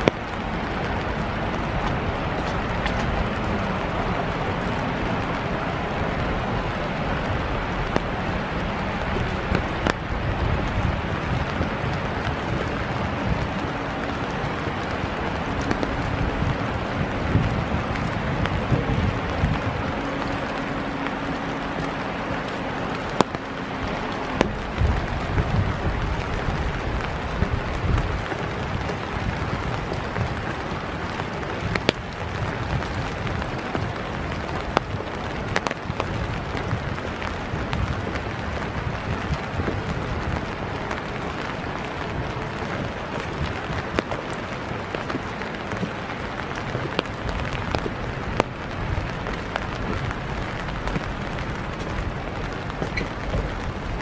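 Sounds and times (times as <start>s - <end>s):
footsteps on wet boardwalk: 0.0s - 54.0s
low uneven rumble: 0.0s - 54.0s
rain hissing: 0.0s - 54.0s.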